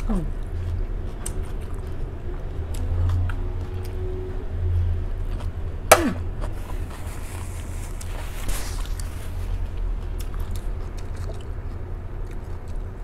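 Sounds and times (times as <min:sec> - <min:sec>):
chewing crisp lettuce: 0:00.0 - 0:13.0
low steady hum: 0:00.0 - 0:13.0.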